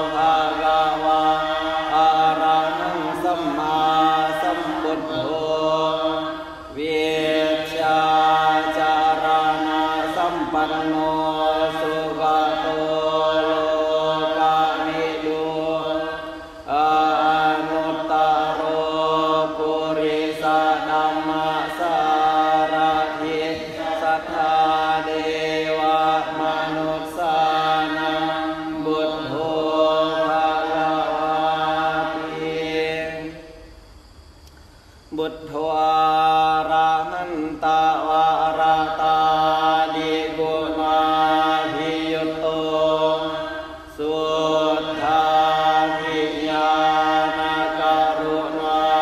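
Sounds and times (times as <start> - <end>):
group chanting in unison: 0.0 - 33.8, 35.1 - 49.0.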